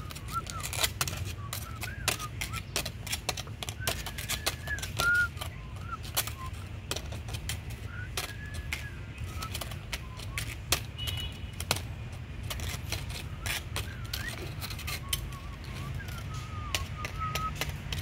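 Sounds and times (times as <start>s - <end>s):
dry leaf crackling and rustling: 0.0s - 18.0s.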